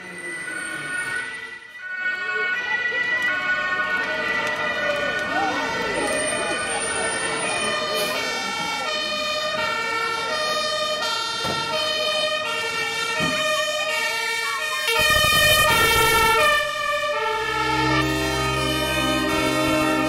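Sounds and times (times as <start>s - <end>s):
two-tone fire engine siren: 0.0s - 20.0s.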